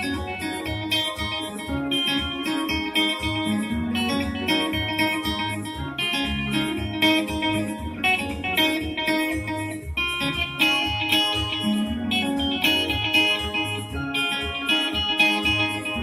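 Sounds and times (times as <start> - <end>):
electric guitar picked notes: 0.0 - 16.0
electronic keyboard: 0.0 - 16.0
steady beat and bass: 0.0 - 16.0.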